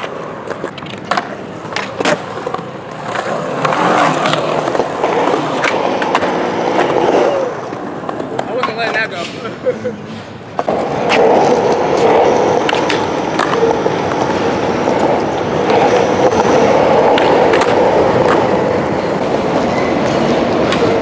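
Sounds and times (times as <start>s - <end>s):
skateboard wheels rumbling: 0.0s - 21.0s.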